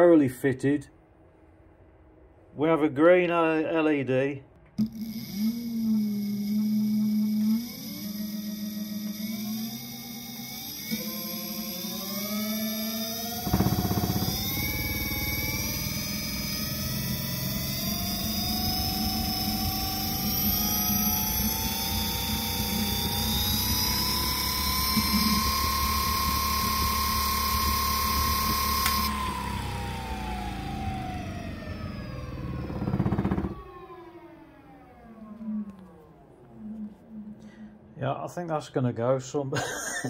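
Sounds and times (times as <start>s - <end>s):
electric motor whine: 4.8s - 37.3s.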